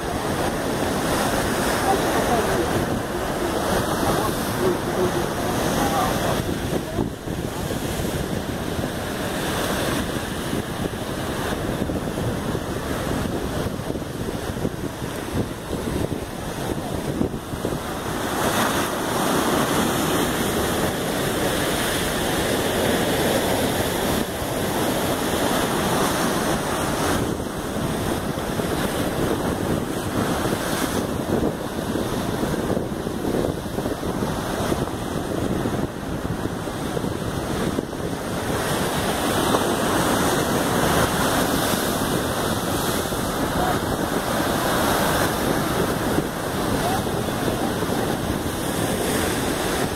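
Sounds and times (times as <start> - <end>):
ocean surf breaking on rocks: 0.0 - 49.9
wind buffeting microphone: 0.0 - 49.9.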